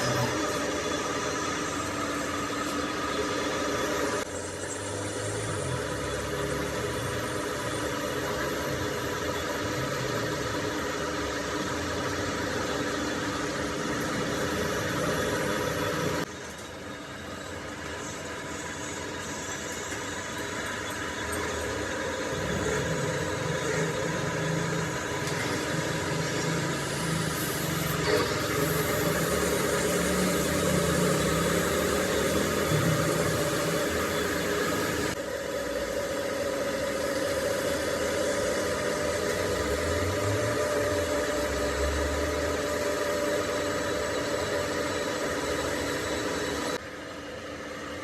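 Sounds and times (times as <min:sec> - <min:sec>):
machinery motor hum: 0:00.0 - 0:47.9.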